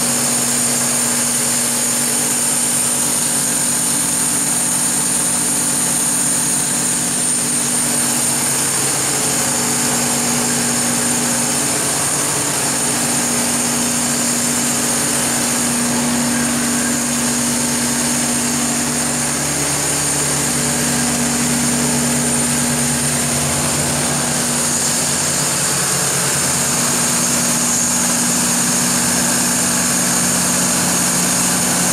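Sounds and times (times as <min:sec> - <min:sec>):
diesel generator running: 0:00.0 - 0:31.9
high whine: 0:01.2 - 0:31.9.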